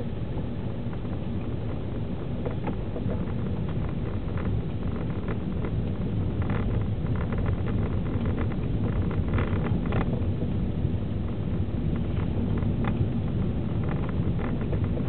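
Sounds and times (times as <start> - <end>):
in-cabin engine and tyre rumble: 0.0 - 15.0
small clicks and rattles: 0.8 - 10.4, 11.1 - 15.0.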